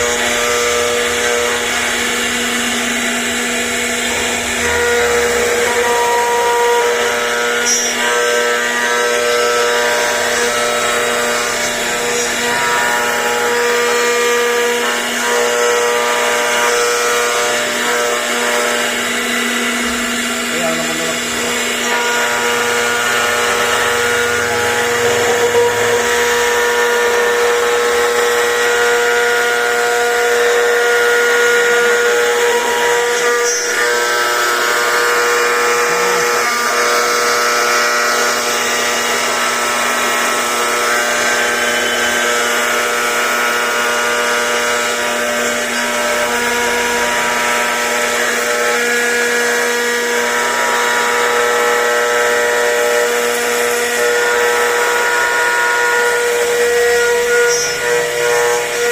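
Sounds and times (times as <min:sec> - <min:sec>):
router cutting noise: 0:00.0 - 0:58.9
router spindle whine: 0:00.0 - 0:58.9.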